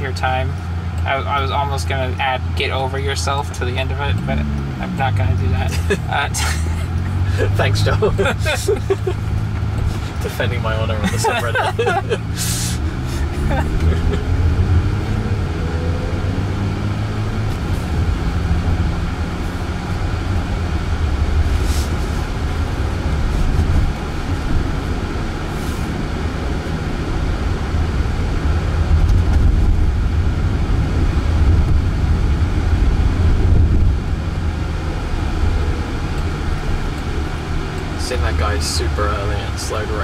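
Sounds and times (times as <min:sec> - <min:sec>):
road and tyre rumble: 0:00.0 - 0:40.0.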